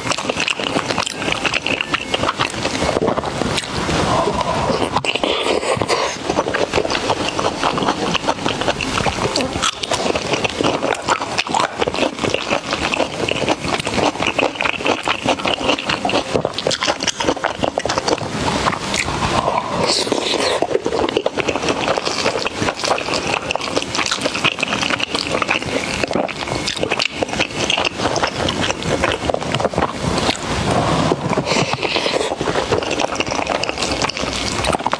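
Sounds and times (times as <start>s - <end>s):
chewing with mouth smacks: 0.0s - 34.9s.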